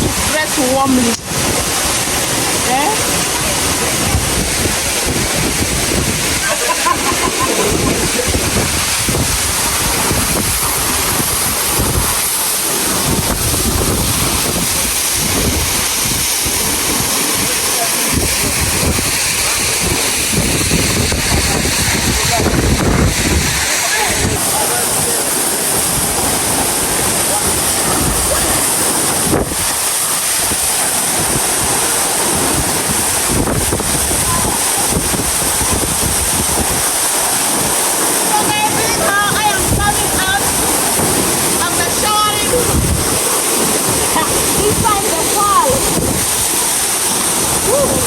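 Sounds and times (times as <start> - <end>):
waterfall rushing: 0.0 - 48.0
wind buffeting microphone: 0.0 - 48.0.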